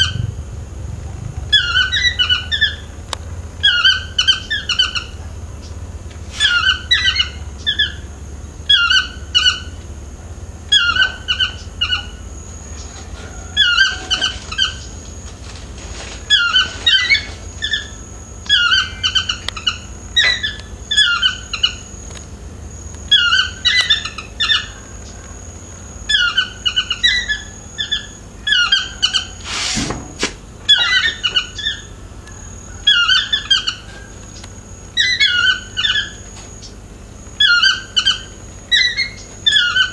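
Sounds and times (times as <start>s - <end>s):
toucan yelping calls: 0.0s - 9.9s, 10.6s - 15.2s, 16.2s - 22.1s, 22.7s - 29.5s, 30.6s - 39.9s.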